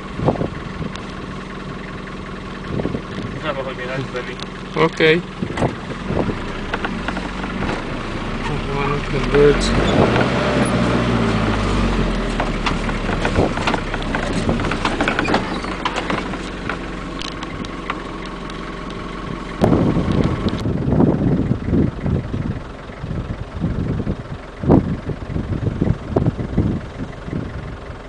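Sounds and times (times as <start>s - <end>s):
wind buffeting microphone: 0.0s - 1.8s, 2.4s - 3.6s, 5.3s - 8.4s, 9.6s - 18.1s, 19.0s - 28.0s
vehicle engine idling: 0.0s - 28.0s.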